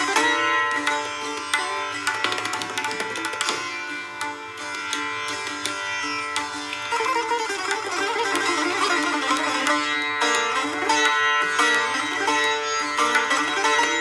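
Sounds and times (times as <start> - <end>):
plucked sitar-like strings: 0.0 - 14.0
tabla drumming: 0.0 - 14.0.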